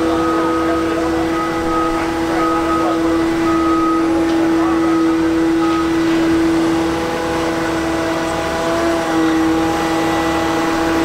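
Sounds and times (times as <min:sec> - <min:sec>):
heavy equipment engine running: 0:00.0 - 0:11.0.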